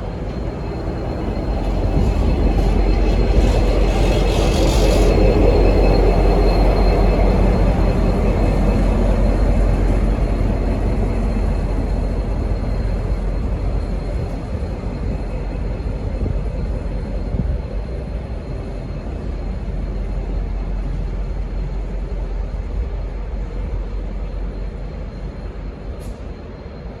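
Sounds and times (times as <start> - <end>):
diesel locomotive rumble: 0.0 - 27.0.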